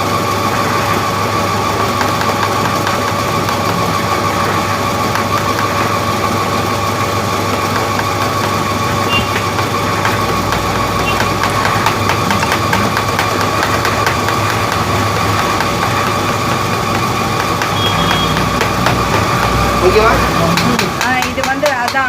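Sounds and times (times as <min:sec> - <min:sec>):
grinding machine motor hum: 0:00.0 - 0:21.5.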